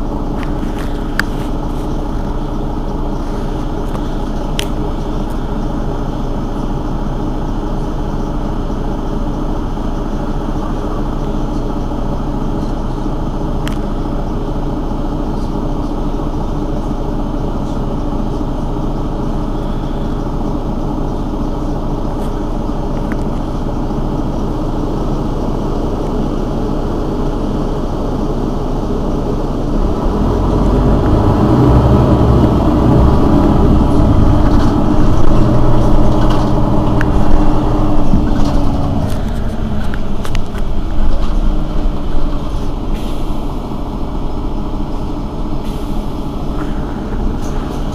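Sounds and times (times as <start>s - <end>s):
bus engine idling: 0.0s - 47.9s.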